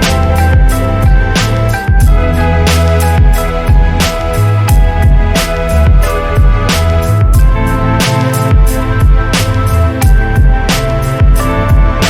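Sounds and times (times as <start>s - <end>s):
deep bass: 0.0s - 12.0s
held melodic notes: 0.0s - 12.0s
pop music with drum beat: 0.0s - 12.0s.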